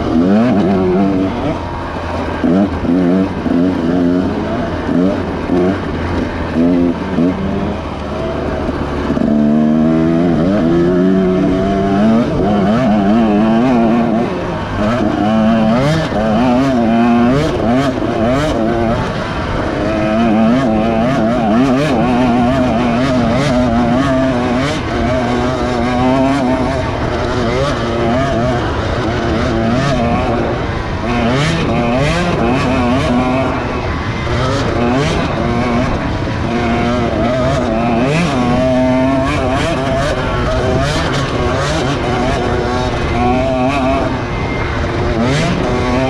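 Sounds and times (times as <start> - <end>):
racing engines revving: 0.0 - 46.0.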